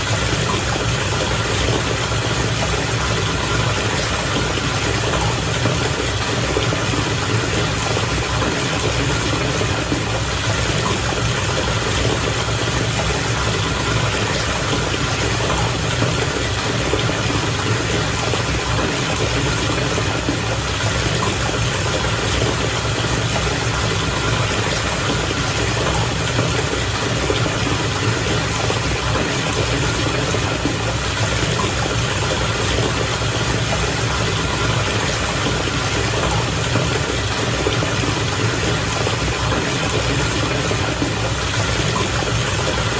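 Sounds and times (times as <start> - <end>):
bath water bubbling: 0.0 - 42.9.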